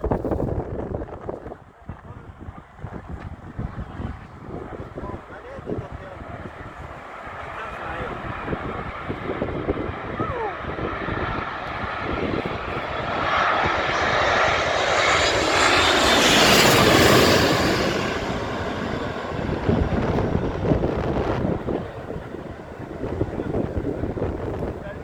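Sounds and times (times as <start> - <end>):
wind buffeting microphone: 0.0 - 25.0
airliner engine passing overhead: 2.0 - 25.0.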